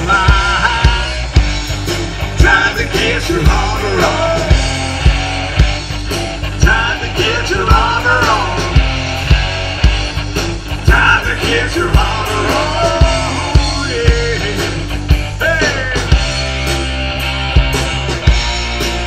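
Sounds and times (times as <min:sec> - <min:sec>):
bass guitar: 0:00.0 - 0:19.0
drum kit beat: 0:00.0 - 0:19.0
electric guitars: 0:00.0 - 0:19.0.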